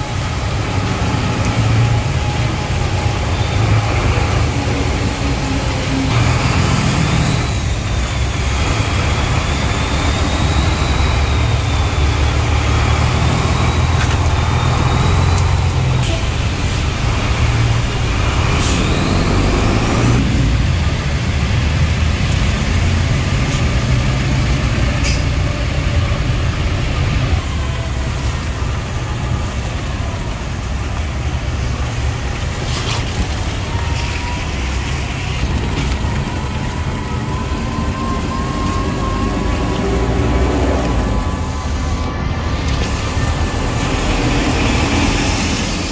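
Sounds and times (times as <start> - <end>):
road and traffic noise: 0.0 - 45.9
vehicle engine rumble: 0.0 - 45.9.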